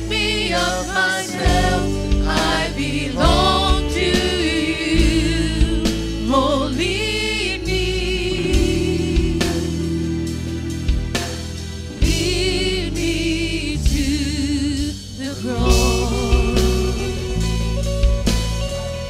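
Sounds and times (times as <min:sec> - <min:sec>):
voices singing: 0:00.0 - 0:10.3, 0:11.9 - 0:17.8
band accompaniment: 0:00.0 - 0:19.0.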